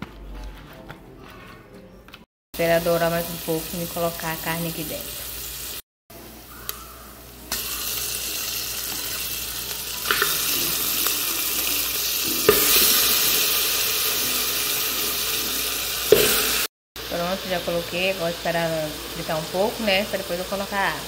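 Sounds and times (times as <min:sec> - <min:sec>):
meat sizzling in hot oil: 0:02.6 - 0:05.8, 0:06.7 - 0:21.0.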